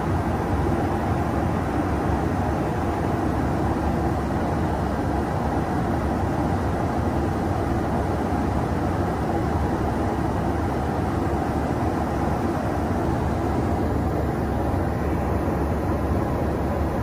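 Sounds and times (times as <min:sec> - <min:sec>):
aircraft engine and rushing air: 0:00.0 - 0:17.0.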